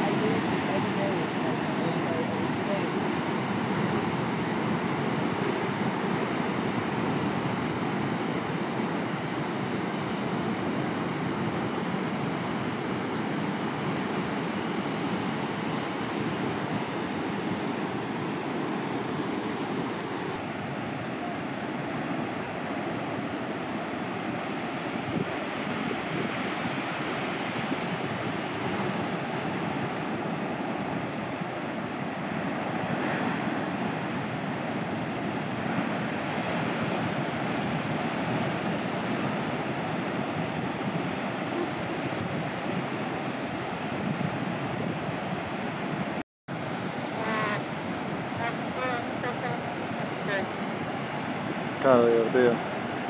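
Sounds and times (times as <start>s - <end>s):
heavy ocean surf: 0.0s - 53.0s
wind on microphone: 0.0s - 53.0s.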